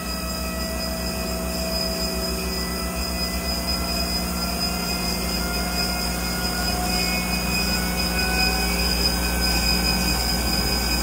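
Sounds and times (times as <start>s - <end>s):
bandsaw droning and whining: 0.0s - 11.0s.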